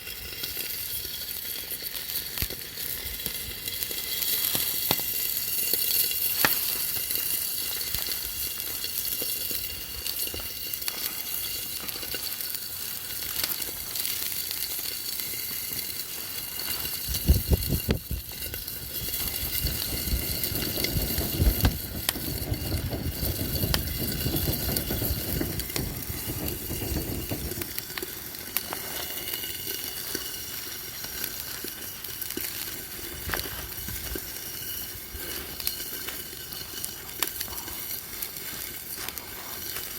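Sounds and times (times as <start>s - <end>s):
food sizzling over campfire: 0.0s - 39.9s.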